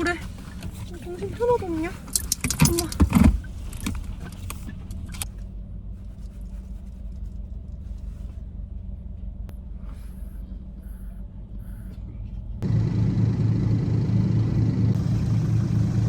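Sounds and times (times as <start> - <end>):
car engine rumble from cabin: 0.0 - 16.0.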